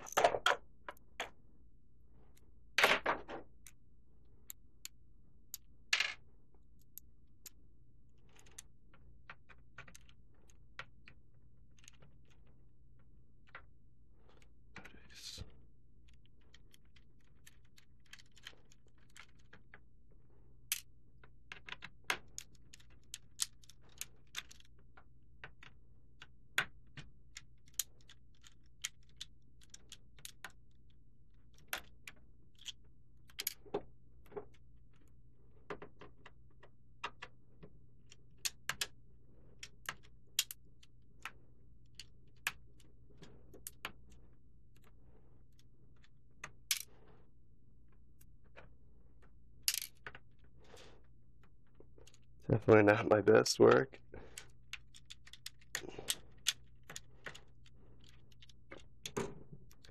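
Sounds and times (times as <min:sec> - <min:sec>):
faint steady low hum: 0:00.0 - 0:59.9.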